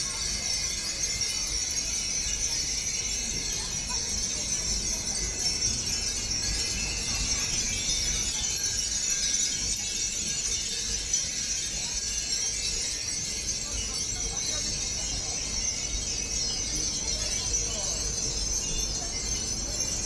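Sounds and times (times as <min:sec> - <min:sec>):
wind chimes tinkling: 0:00.0 - 0:20.0.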